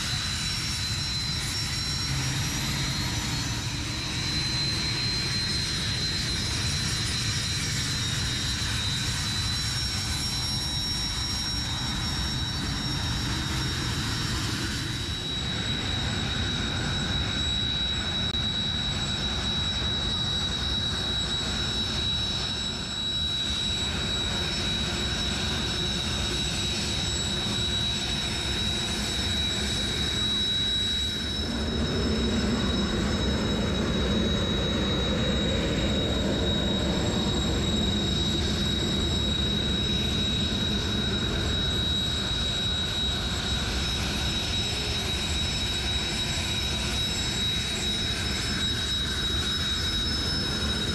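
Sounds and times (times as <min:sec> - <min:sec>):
jet engines roaring with high whine: 0:00.0 - 0:50.9.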